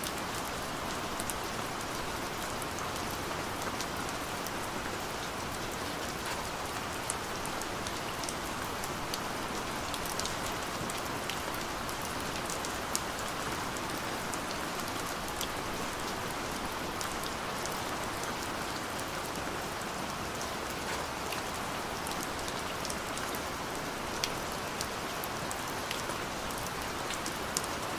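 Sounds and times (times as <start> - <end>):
raindrops ticking on a surface: 0.0 - 27.9
steady rain hiss: 0.0 - 27.9.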